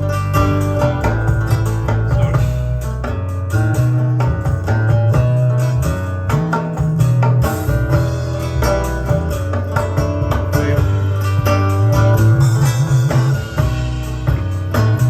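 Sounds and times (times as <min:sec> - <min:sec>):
guitar music with bass and beat: 0:00.0 - 0:15.0.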